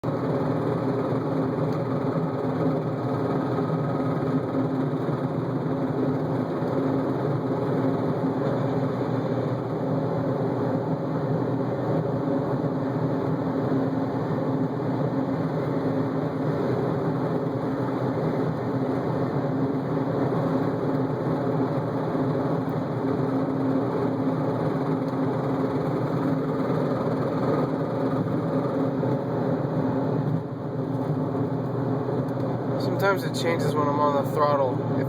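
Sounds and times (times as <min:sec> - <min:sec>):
car engine running steadily: 0:00.0 - 0:35.0.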